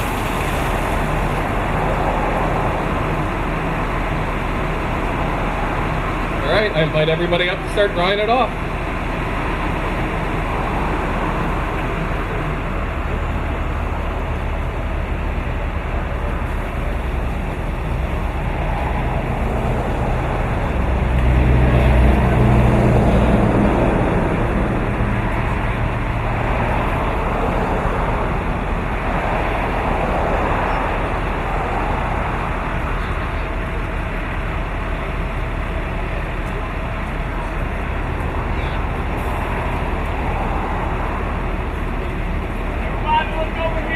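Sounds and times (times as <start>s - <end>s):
heavy vehicle engine humming: 0.0s - 43.9s.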